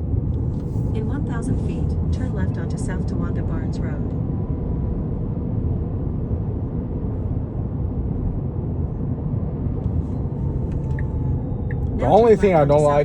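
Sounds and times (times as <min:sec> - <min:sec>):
road and wind noise in car cabin: 0:00.0 - 0:13.0.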